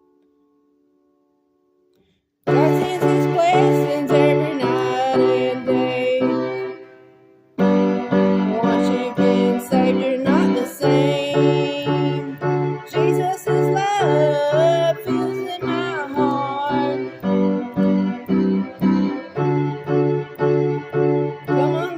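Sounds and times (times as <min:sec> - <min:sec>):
electronic keyboard chords: 0:02.5 - 0:21.9
wavering keyboard melody: 0:02.5 - 0:21.9.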